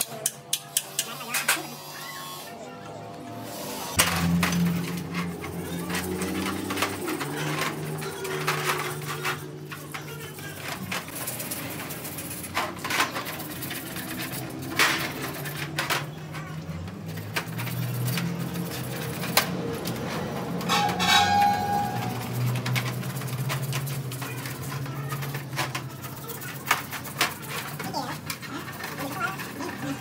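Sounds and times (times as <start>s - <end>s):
metal tools clinking and knocking: 4.0s - 30.0s.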